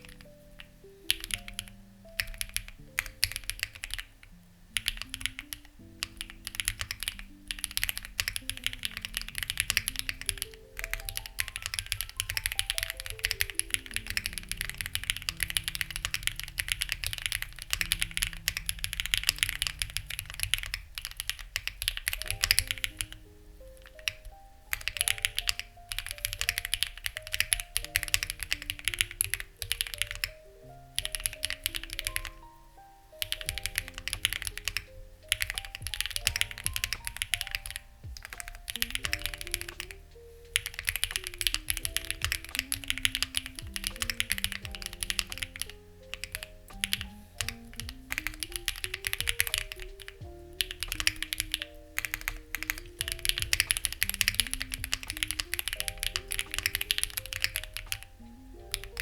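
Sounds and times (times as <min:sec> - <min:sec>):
mechanical keyboard typing: 0:00.0 - 0:32.5, 0:33.1 - 0:59.0
soft background music: 0:00.0 - 0:59.0.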